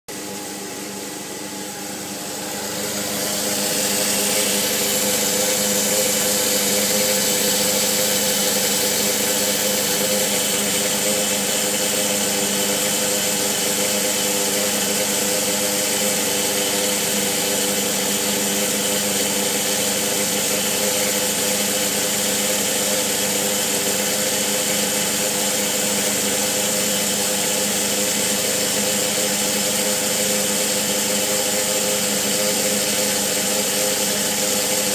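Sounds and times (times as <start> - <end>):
fuel pump buzzing hum: 0.1 - 34.9.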